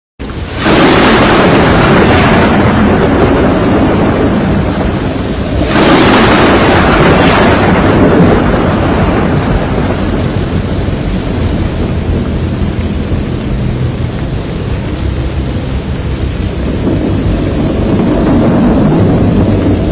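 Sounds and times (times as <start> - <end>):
rain-like noise: 0.2 - 19.9
thunder crash rumbling: 0.2 - 19.9.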